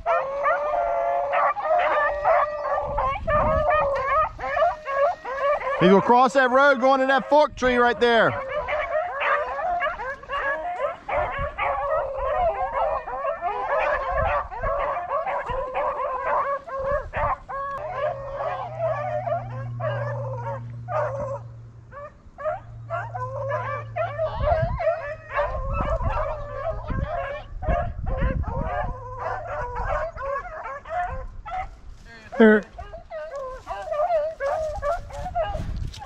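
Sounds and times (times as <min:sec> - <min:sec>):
dogs baying and yelping: 0:00.0 - 0:36.0.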